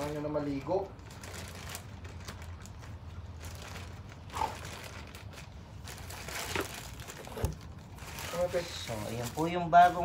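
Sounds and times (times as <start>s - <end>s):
plastic wrapping rustling: 0.0s - 10.0s.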